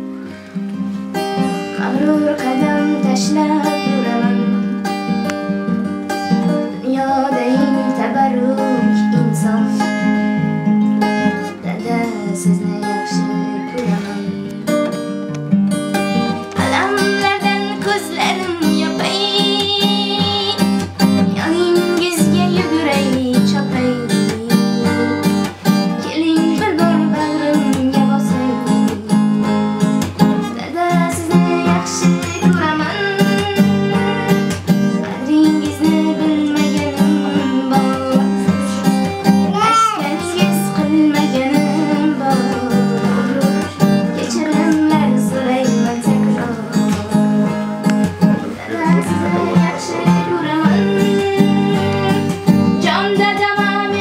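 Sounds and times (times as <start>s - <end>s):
acoustic guitar strumming chords: 0.0s - 54.0s
young woman singing: 1.4s - 14.5s, 16.1s - 54.0s.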